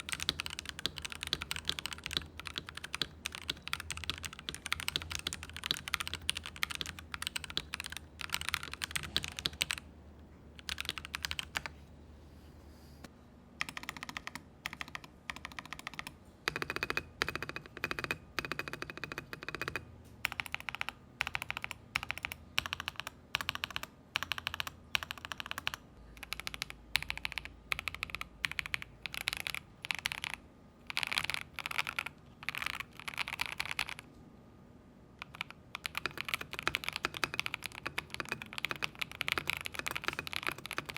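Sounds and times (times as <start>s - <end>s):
mechanical keyboard typing: 0.0s - 9.9s, 10.6s - 11.8s, 13.6s - 34.1s, 35.2s - 40.9s.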